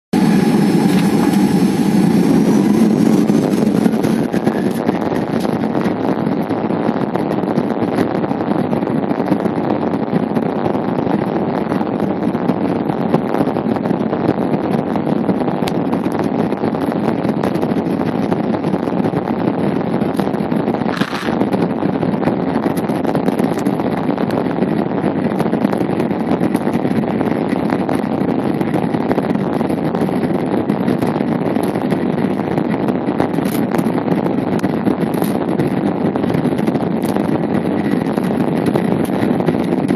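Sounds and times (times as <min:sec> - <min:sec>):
jet engines at takeoff power: 0:00.2 - 0:08.1, 0:15.2 - 0:39.9.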